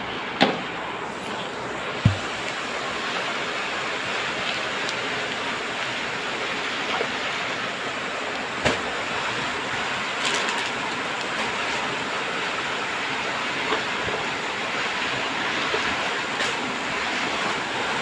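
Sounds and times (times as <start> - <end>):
rain falling: 0.8 - 18.0.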